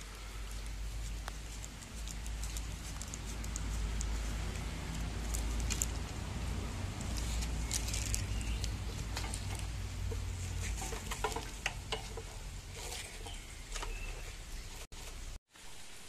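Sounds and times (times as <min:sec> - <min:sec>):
low rumble and hiss: 0:00.0 - 0:16.0
cable in plastic wrap rustling: 0:00.5 - 0:14.3.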